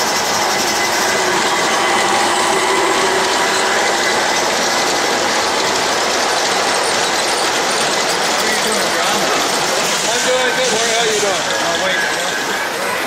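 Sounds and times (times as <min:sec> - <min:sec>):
model trains rolling on track: 0:00.0 - 0:13.0.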